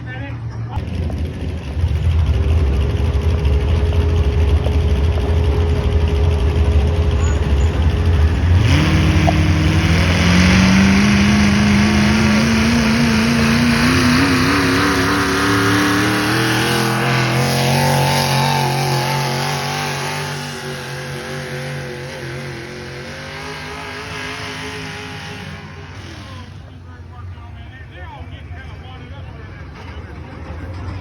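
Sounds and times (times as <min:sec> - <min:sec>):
engine running hard: 0:00.0 - 0:31.0.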